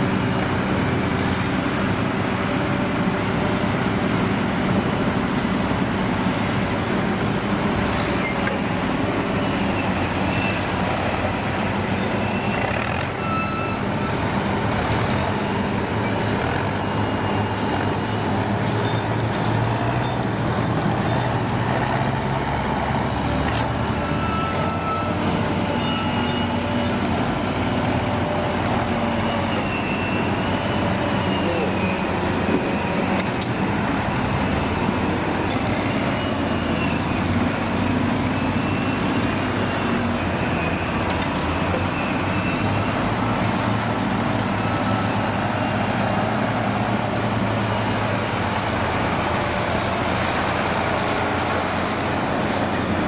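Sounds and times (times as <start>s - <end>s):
heavy diesel truck engines running: 0.0s - 53.0s.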